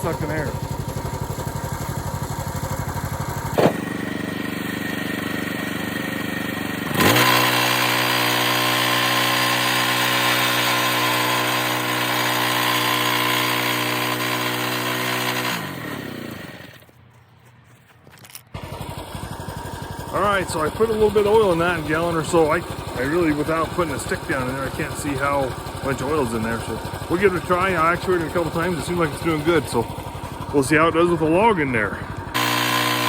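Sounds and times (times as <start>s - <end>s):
small gasoline engine running: 0.0s - 17.0s, 18.5s - 33.0s.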